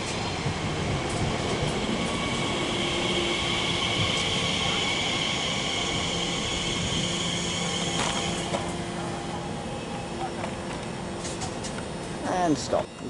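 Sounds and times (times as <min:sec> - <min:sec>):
electric train whine: 0:00.0 - 0:13.0
train rumble: 0:00.0 - 0:13.0.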